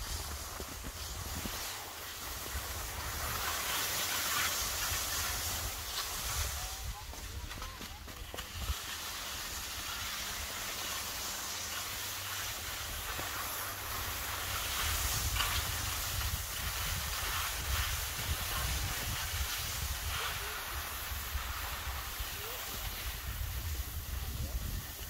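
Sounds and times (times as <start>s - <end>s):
wind rumbling on microphone: 0.0s - 10.5s, 12.5s - 25.0s
skis scraping over snow: 0.0s - 25.0s.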